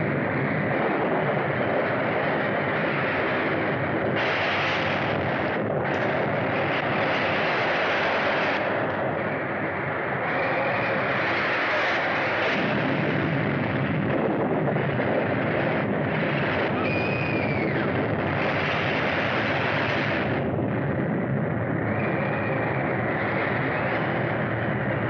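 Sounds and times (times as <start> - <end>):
loud steady rumbling: 0.0 - 25.0.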